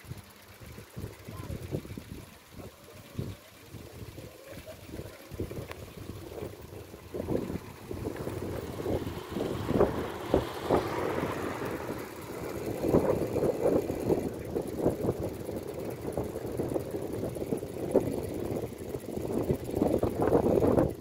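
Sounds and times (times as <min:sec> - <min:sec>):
wheels rolling on asphalt: 0:00.0 - 0:21.0
wind buffeting microphone: 0:00.8 - 0:21.0.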